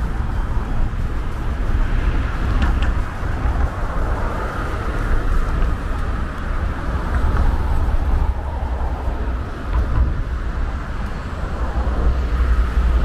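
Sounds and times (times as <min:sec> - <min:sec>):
cars passing: 0:00.0 - 0:13.0
low traffic rumble: 0:00.0 - 0:13.0.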